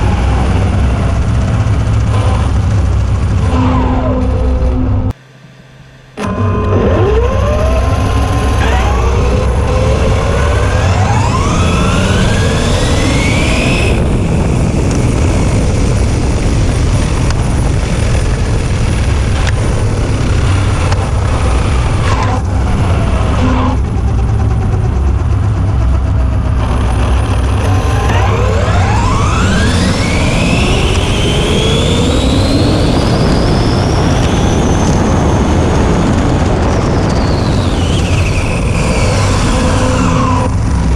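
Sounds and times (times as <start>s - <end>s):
heavy low rumble: 0.0s - 40.9s
rc car motor whine: 0.0s - 40.9s.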